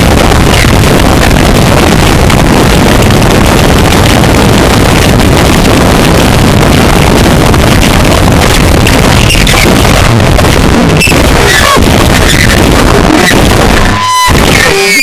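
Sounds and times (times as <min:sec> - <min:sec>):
distorted harsh noise music: 0:00.0 - 0:15.0.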